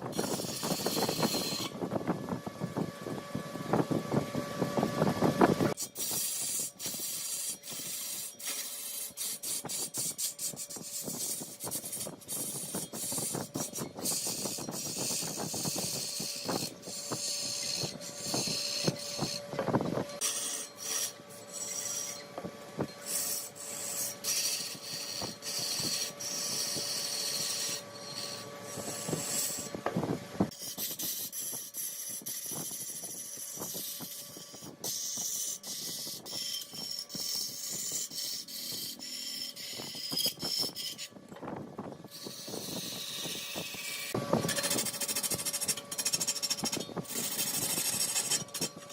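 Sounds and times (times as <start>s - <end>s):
lathe tool rasping on spinning wood: 0.0s - 1.8s, 2.6s - 41.2s, 42.1s - 48.9s
motor hum: 0.0s - 48.9s.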